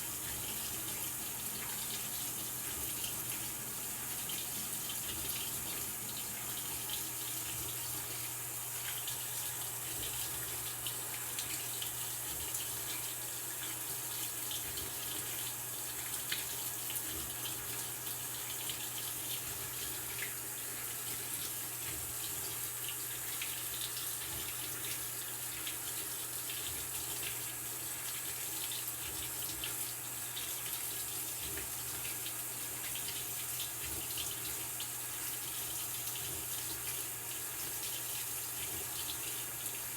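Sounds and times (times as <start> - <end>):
water pouring into washer tub: 0.0 - 39.9.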